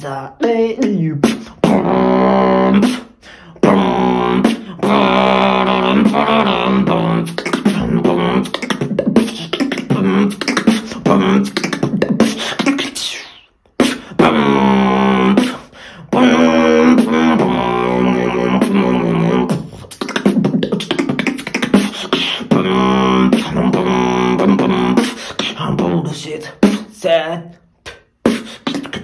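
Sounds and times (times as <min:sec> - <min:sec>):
beatboxing percussion hits: 0:00.0 - 0:27.2, 0:27.8 - 0:29.0
held pitched vocal tones: 0:00.0 - 0:29.0.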